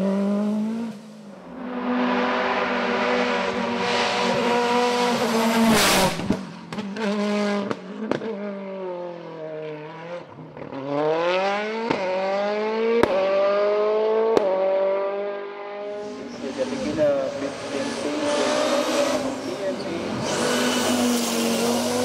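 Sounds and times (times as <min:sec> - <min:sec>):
race car engine revving: 0:00.0 - 0:08.8, 0:09.6 - 0:22.0.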